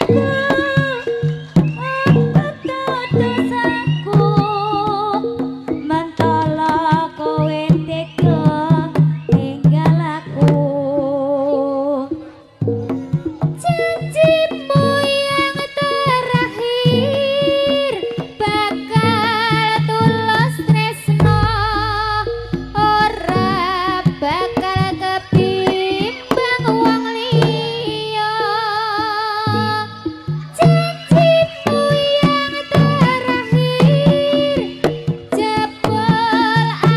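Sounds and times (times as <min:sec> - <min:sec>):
wavering vibrato melody: 0:00.0 - 0:10.2, 0:11.3 - 0:36.9
hand drum strokes: 0:00.0 - 0:10.8, 0:12.2 - 0:36.9
metal percussion tones: 0:00.0 - 0:36.9.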